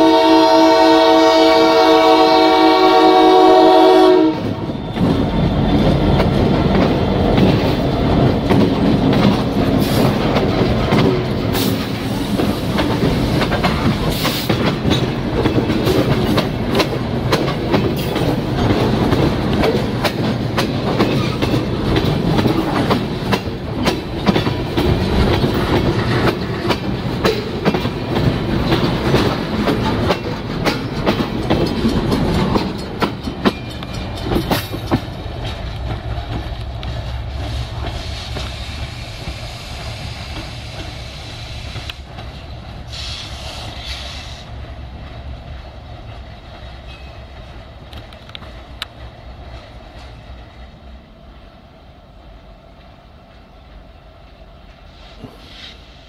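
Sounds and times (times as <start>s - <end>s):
train wheels clacking on rails: 0.0s - 55.9s
diesel locomotive passing: 0.0s - 56.0s.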